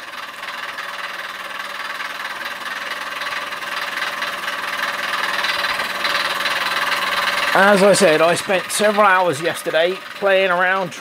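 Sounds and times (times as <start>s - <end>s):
model steam engine running: 0.0s - 11.0s.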